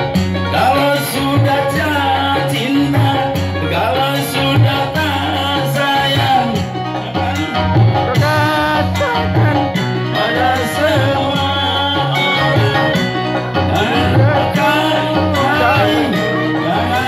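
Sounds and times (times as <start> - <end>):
electronic keyboard bass line: 0.0 - 17.0
person singing into microphone: 0.0 - 17.0.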